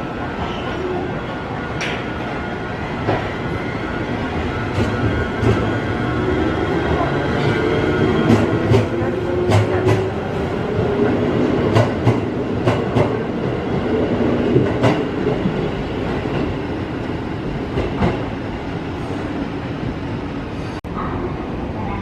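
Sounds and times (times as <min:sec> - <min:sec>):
train rumble: 0:02.9 - 0:22.0.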